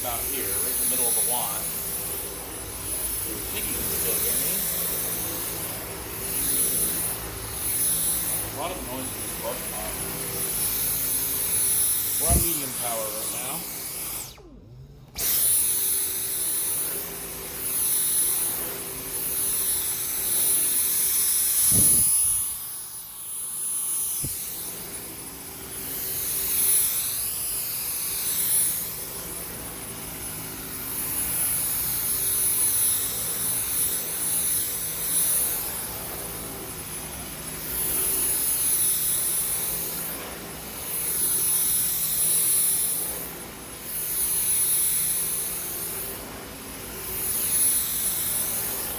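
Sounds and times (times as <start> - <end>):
vacuum cleaner running: 0.0 - 48.9
vacuum head over carpet: 0.0 - 48.9.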